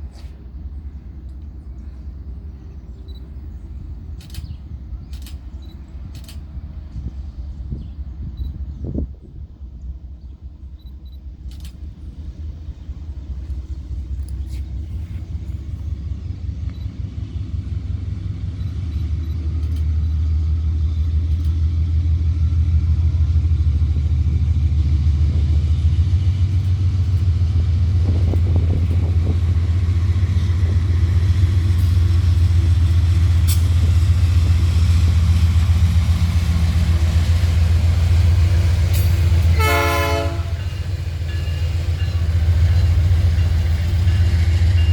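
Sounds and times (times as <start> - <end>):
diesel locomotive engine rumble: 0.0 - 44.9.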